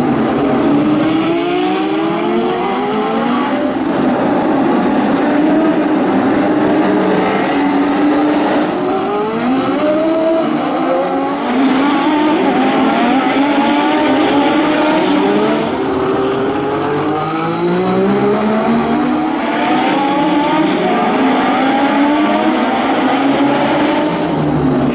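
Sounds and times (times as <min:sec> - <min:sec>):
racing car engines accelerating: 0:00.0 - 0:24.9.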